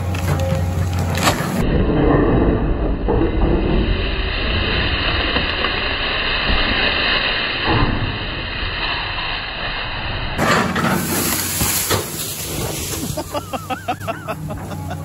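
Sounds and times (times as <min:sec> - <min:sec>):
heavy machine running: 0:00.0 - 0:08.6, 0:10.4 - 0:15.0.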